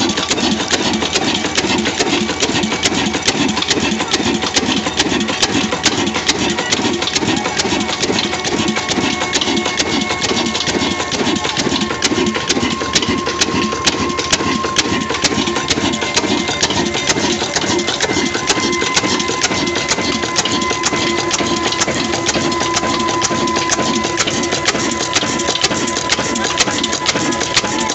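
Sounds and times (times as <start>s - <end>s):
engine clicking beat: 0.0s - 27.9s
stationary engine running: 0.0s - 27.9s.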